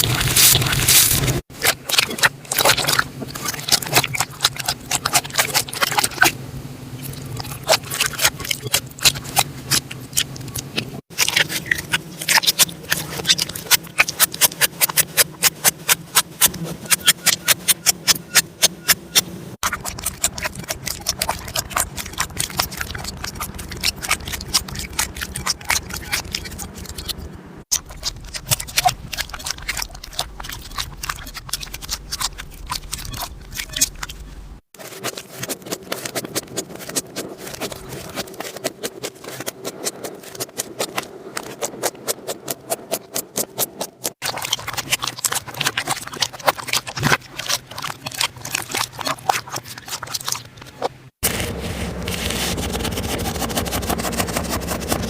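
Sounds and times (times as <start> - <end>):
slime squishing with sticky pops: 0.0 - 6.4, 7.0 - 51.0.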